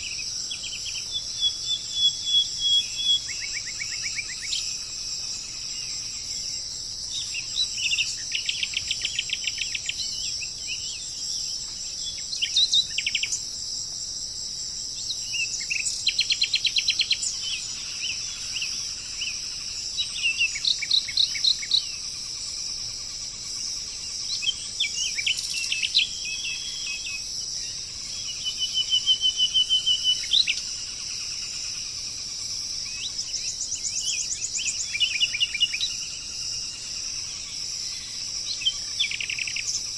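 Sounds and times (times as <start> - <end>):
birds trilling and chirping: 0.0 - 13.6, 14.8 - 39.9
insects droning: 0.0 - 39.9.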